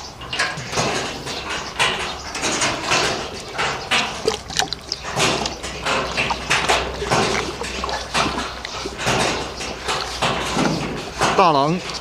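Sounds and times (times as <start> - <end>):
scuffling and rustling in pen: 0.3 - 12.0.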